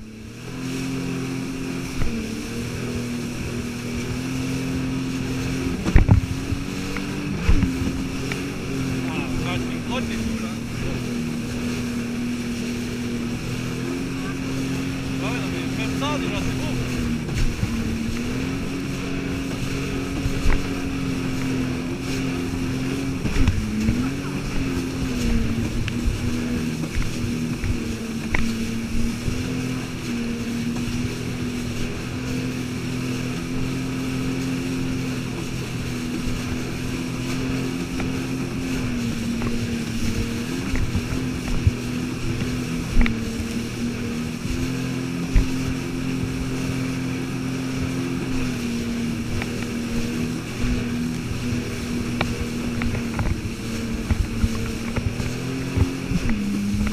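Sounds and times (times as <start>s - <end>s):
jet ski engine running: 0.0s - 56.9s.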